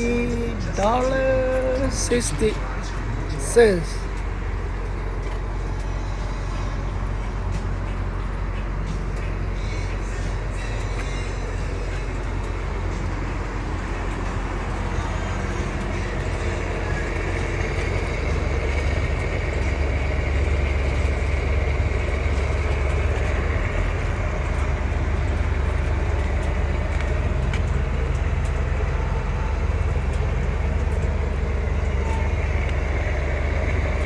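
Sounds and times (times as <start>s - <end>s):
low vehicle rumble: 0.0s - 34.0s.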